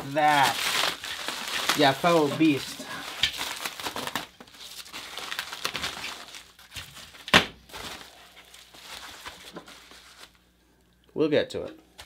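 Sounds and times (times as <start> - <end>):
plastic wrap rustling: 0.0 - 10.5.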